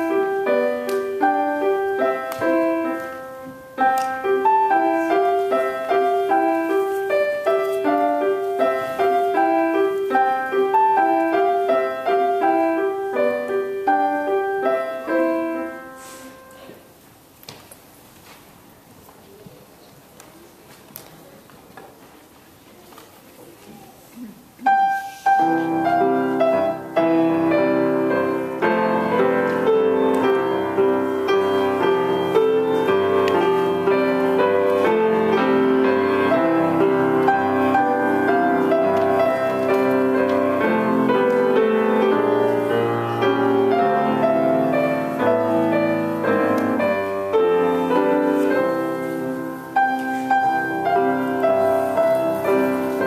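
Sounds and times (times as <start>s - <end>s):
grand piano duet: 0.0s - 53.0s.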